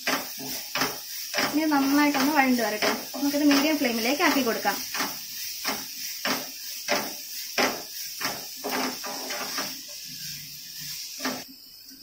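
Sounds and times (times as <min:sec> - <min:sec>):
spatula scraping and stirring: 0:00.0 - 0:11.5
onions sizzling in oil: 0:00.0 - 0:12.0.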